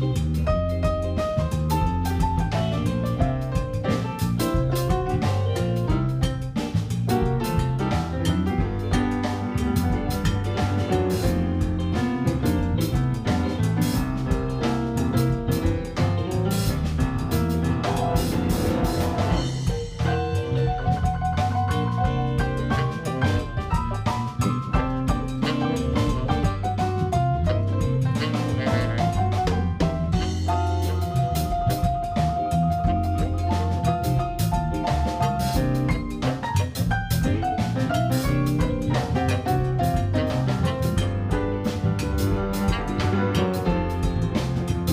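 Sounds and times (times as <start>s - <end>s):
bass line: 0.0s - 44.9s
drum kit beat: 0.0s - 44.9s
guitar: 0.0s - 44.9s
lead instrument melody: 0.0s - 44.9s.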